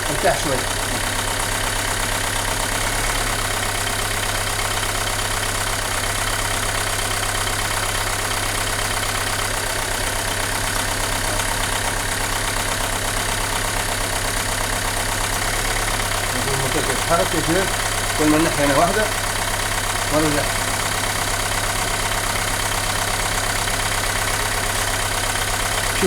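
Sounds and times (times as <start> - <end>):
car engine idling roughly: 0.0 - 26.0.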